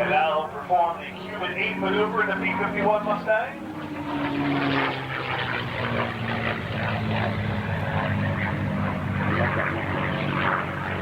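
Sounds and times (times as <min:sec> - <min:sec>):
propeller aircraft engine droning: 0:00.0 - 0:11.0.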